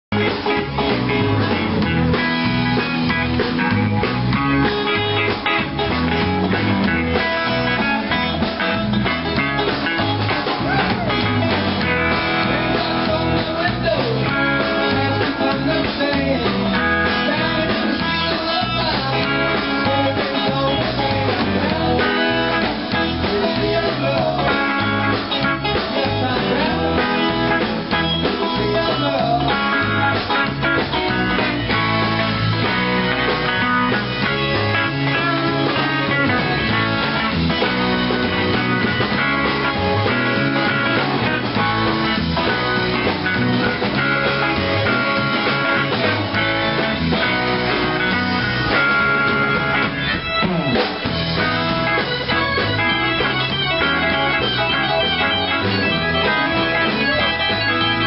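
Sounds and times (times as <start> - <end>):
guitar-led blues music: 0.1 - 58.0.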